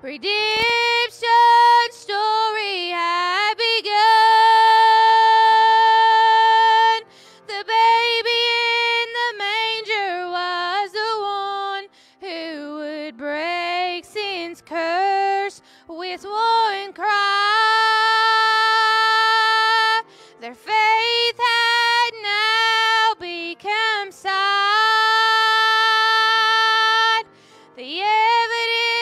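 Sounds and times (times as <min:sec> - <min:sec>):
woman singing with vibrato: 0:00.0 - 0:29.0.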